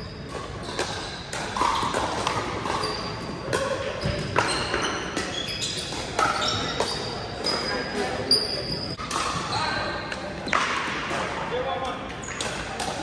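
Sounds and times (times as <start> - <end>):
sneakers squeaking on gym floor: 0.0 - 10.7.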